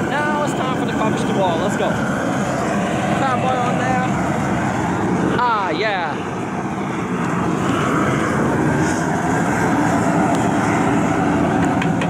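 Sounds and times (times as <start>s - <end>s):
gas burner flame rushing: 0.0s - 12.0s.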